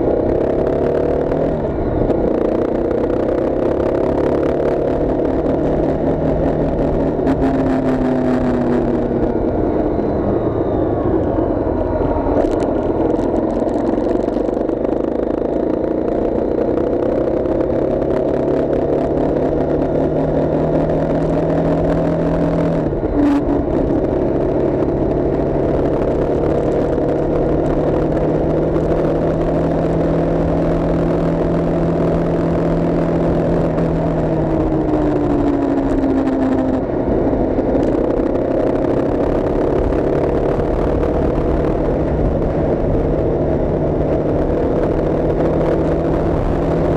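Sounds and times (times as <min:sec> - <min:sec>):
steady road noise: 0:00.0 - 0:46.9.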